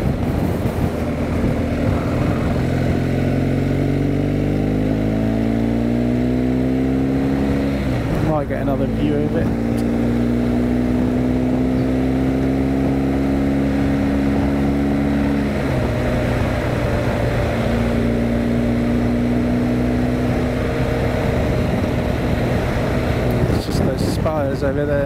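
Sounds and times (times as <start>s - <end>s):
motorcycle engine: 0.0s - 25.0s
wind noise on microphone: 0.0s - 25.0s.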